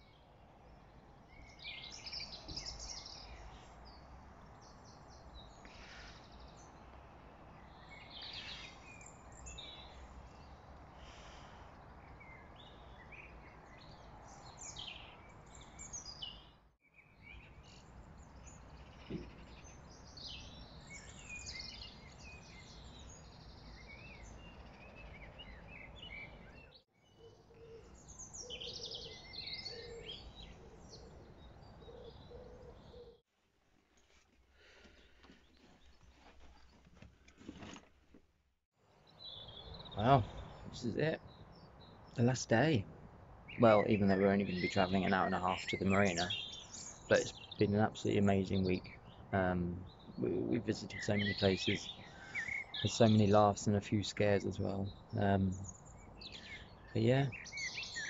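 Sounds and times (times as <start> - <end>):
songbirds singing and chirping: 0.0 - 33.3, 38.8 - 58.0.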